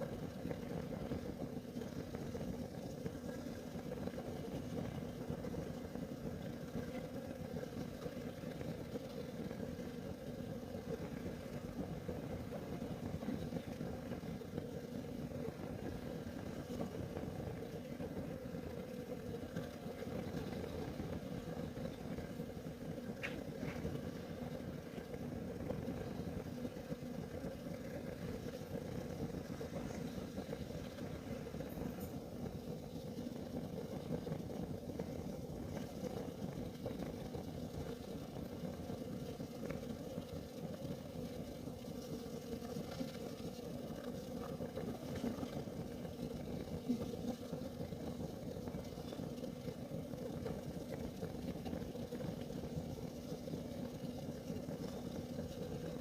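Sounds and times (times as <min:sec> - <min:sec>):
heater flame rumbling: 0:00.0 - 0:56.0.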